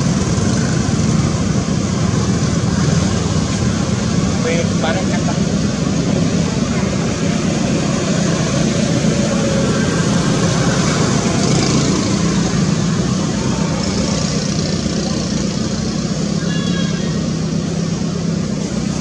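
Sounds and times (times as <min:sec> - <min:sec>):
loud rumbling background noise: 0:00.0 - 0:19.0.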